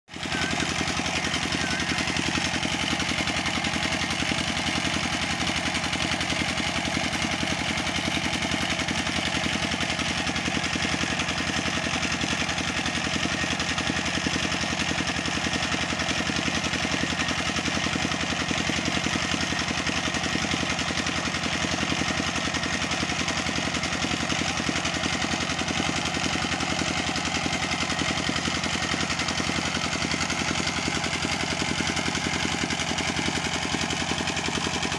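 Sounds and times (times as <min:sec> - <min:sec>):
stationary engine running: 0:00.1 - 0:34.9.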